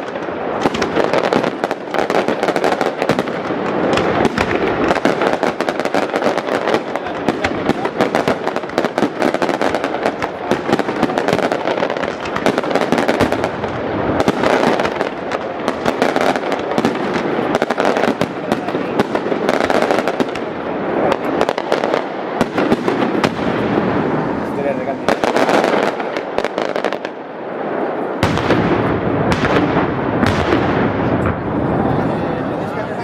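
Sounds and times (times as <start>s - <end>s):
fireworks crackling and popping: 0.0s - 33.0s.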